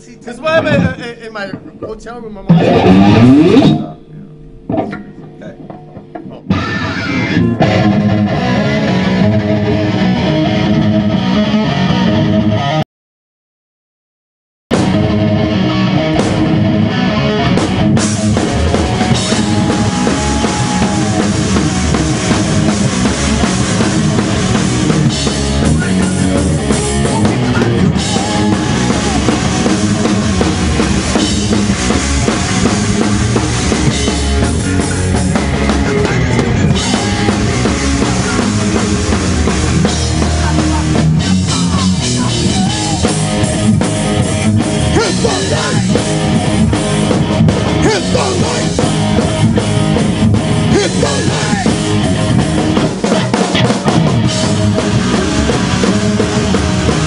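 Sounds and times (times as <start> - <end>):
heavy metal band playing: 0.0 - 12.8, 14.7 - 57.0.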